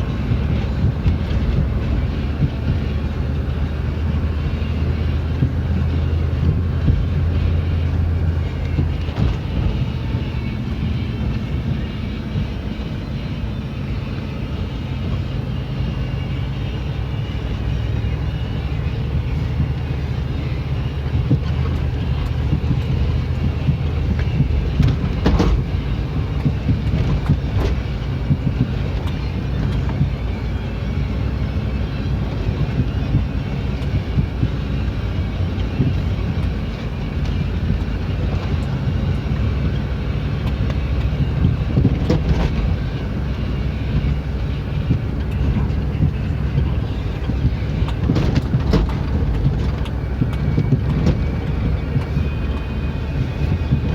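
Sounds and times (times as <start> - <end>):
engine running: 0.0 - 53.9
engine ticking: 0.0 - 53.9
tyre and road noise: 0.0 - 53.9.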